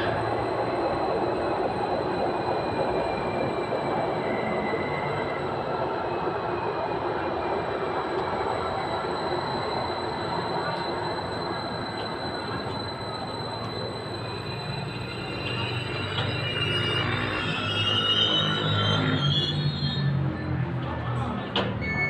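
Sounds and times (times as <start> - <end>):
electric train rumbling past: 0.0 - 22.0
train whine: 0.0 - 22.0.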